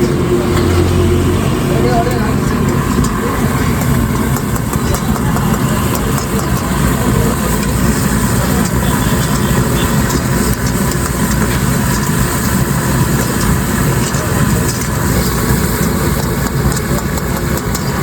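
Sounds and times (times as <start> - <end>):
busy street noise: 0.0 - 18.0
low engine rumble: 0.0 - 18.0.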